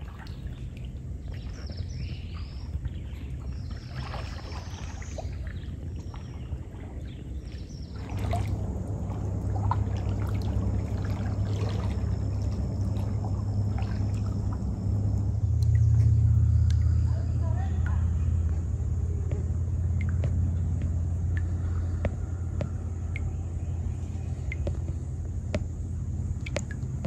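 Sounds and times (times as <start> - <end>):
paddle strokes dripping in water: 0.0 - 18.6, 19.3 - 27.0
low rumble: 0.0 - 27.0.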